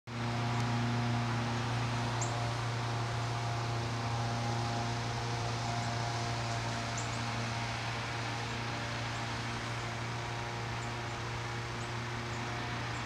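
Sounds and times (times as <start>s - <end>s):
low machine hum: 0.1s - 13.0s.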